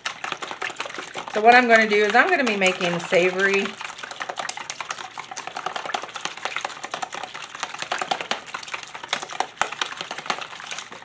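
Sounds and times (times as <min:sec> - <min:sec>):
batter slapping: 0:00.0 - 0:11.0.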